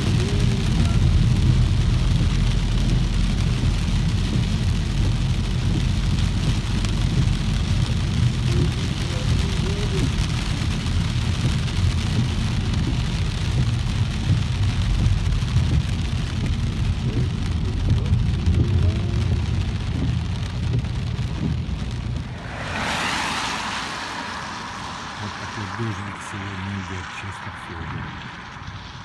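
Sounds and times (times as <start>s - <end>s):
car engine and tyres on wet road: 0.0s - 29.0s
hiss of rain and spray: 0.0s - 29.0s.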